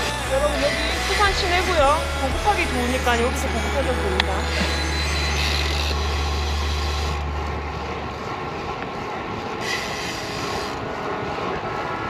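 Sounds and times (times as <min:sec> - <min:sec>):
bicycle road noise: 0:00.0 - 0:12.0
low hum: 0:00.0 - 0:12.0.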